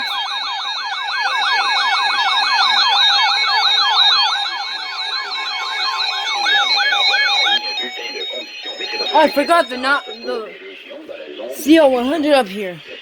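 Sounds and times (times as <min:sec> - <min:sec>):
electronic sirens yelping: 0:00.0 - 0:10.7
steady alarm tones: 0:00.0 - 0:10.8, 0:11.5 - 0:12.8.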